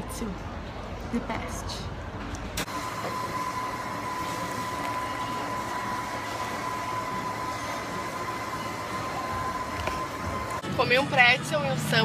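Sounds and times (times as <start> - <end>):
constant high-pitched whine: 0.0 - 12.0.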